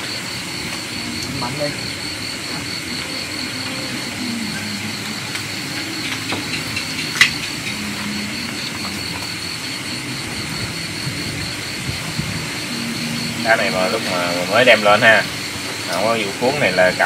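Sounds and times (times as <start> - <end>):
night insects trilling: 0.0 - 17.0
steady hiss and low hum: 0.0 - 17.0.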